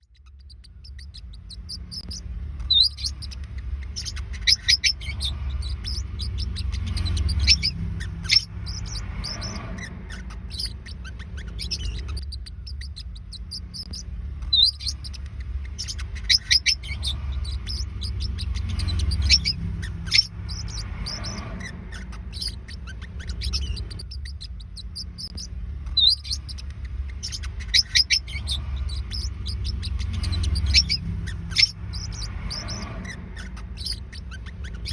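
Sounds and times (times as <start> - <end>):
parrotlets chirping: 0.0 - 34.9
steady low rumble: 0.0 - 34.9.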